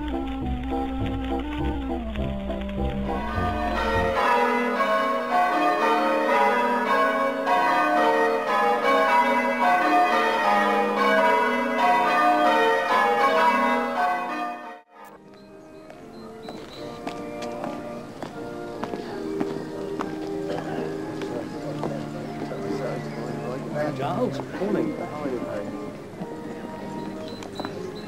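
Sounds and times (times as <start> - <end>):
church bells pealing: 2.9 - 28.0.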